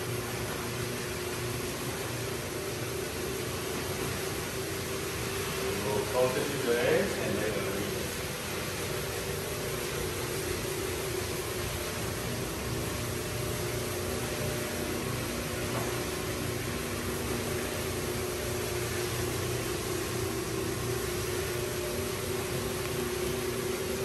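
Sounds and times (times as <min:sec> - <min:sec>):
floor buffer motor hum: 0:00.0 - 0:24.0.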